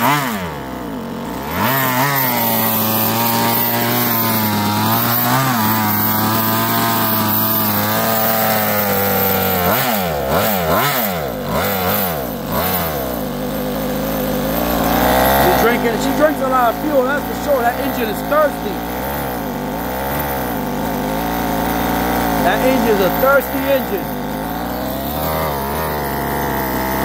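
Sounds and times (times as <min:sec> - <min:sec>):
small two-stroke engine revving: 0:00.0 - 0:27.0.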